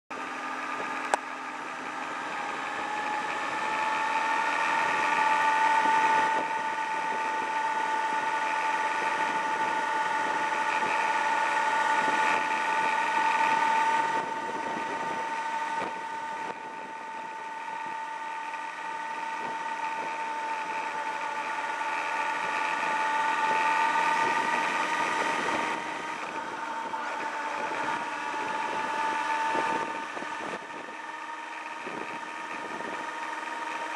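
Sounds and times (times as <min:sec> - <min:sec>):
motorcycle engine riding: 0:00.1 - 0:33.9.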